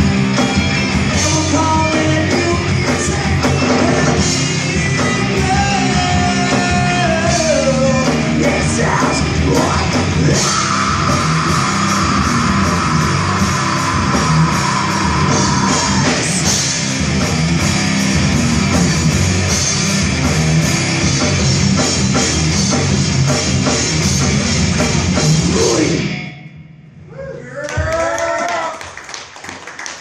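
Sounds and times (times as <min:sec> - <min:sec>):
drum kit with crashing cymbals: 0:00.0 - 0:26.7
distorted electric guitars: 0:00.0 - 0:27.0
bass guitar: 0:00.0 - 0:27.4.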